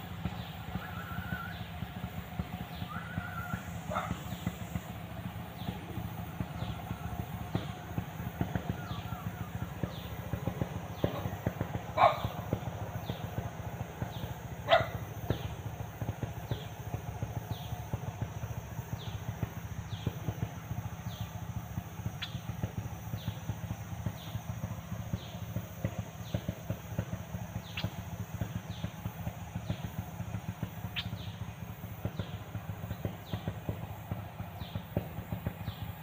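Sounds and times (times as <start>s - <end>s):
low crackling rumble: 0.0s - 36.0s.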